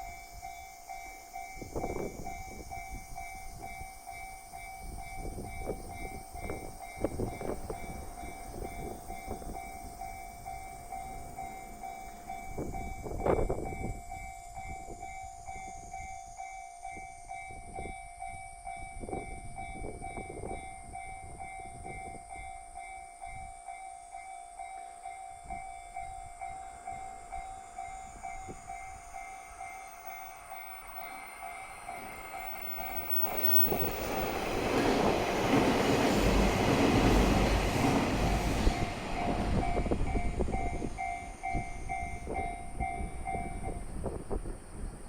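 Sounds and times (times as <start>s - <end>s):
level-crossing warning bell ringing: 0.0s - 44.2s
train passing: 0.0s - 45.0s.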